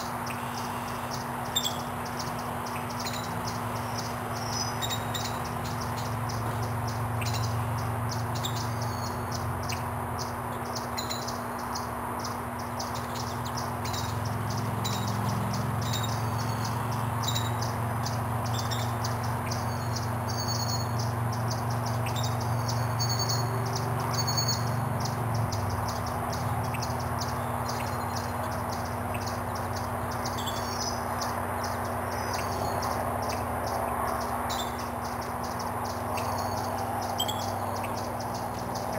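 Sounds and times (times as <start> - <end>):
bird chips and peeps: 0.0 - 38.9.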